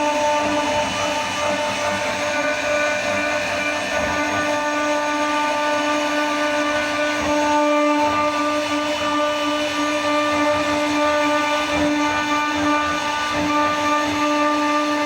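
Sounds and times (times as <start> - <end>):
router spindle high whine: 0.0 - 15.0.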